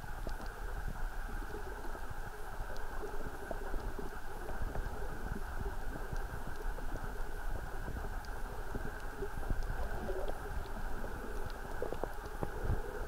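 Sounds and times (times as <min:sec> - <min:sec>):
muffled underwater rumble: 0:00.0 - 0:13.0.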